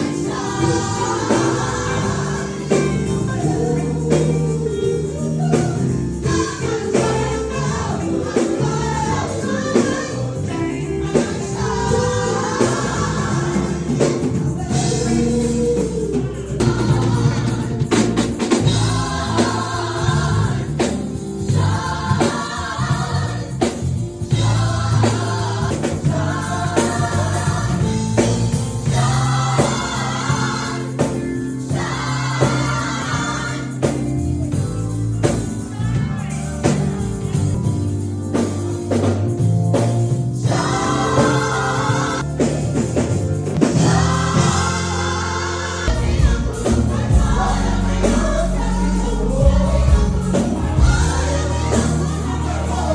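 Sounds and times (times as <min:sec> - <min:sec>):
choir singing: 0:00.0 - 0:34.8, 0:40.4 - 0:52.9
bass and drums: 0:00.0 - 0:52.9.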